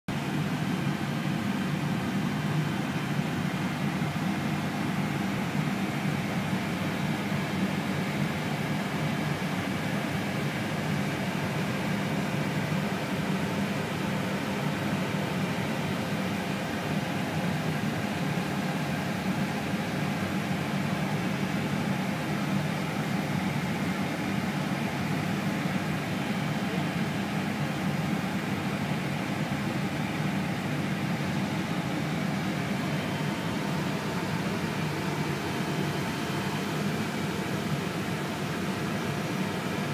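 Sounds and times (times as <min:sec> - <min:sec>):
cockpit fan hum and hiss: 0:00.1 - 0:39.9.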